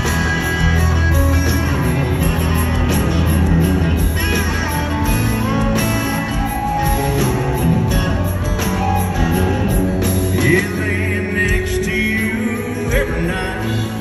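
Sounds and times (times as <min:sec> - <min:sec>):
live country band playing: 0:00.0 - 0:14.0.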